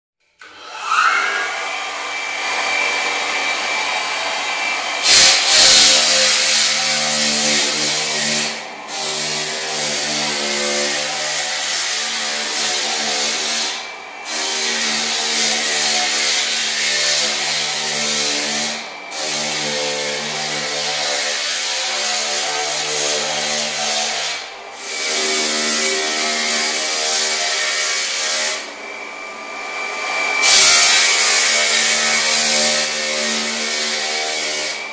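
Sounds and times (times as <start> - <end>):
floor sander grinding wood: 0.4 - 34.9.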